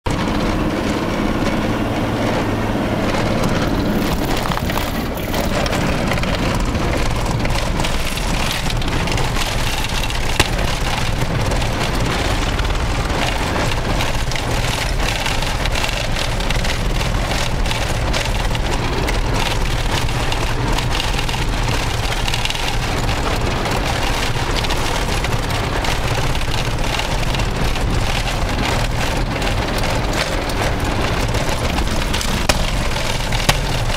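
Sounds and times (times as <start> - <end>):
engine and tyres droning: 0.0 - 33.9
vehicle body rattling: 0.1 - 33.9.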